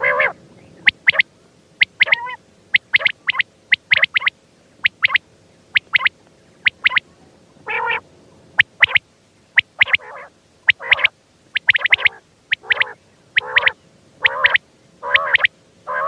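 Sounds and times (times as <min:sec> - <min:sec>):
quail calling: 0:00.0 - 0:07.0, 0:07.6 - 0:08.0, 0:08.6 - 0:09.0, 0:09.6 - 0:16.0.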